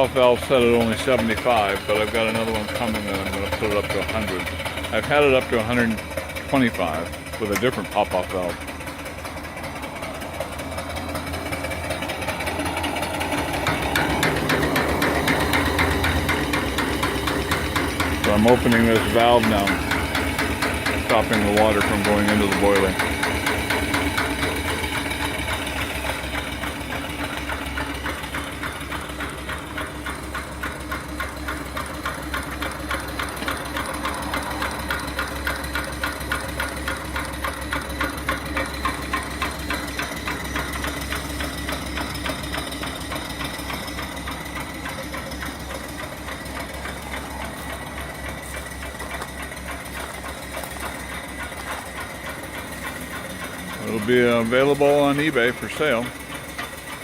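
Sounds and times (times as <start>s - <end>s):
steam engine exhaust chuffs: 0.0s - 57.0s
valve gear clatter: 0.0s - 57.0s.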